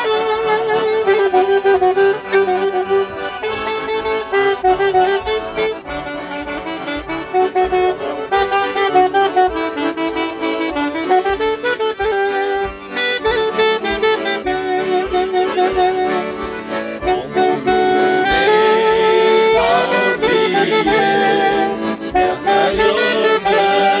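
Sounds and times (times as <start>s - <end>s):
accordion: 0.0s - 24.0s
saxophone melody: 0.0s - 24.0s.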